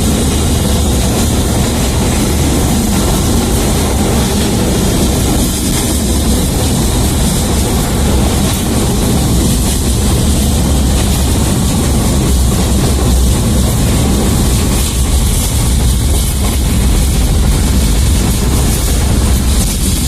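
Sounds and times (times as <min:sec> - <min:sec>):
tram running rumble: 0:00.0 - 0:20.0.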